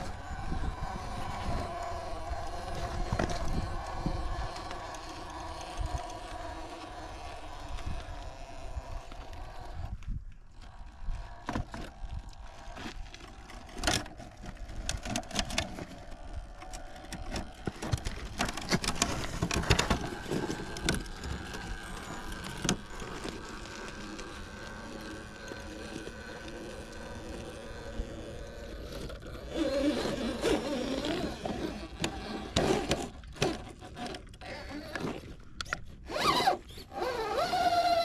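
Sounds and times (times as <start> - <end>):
toy truck motor whine: 0.0 - 38.0.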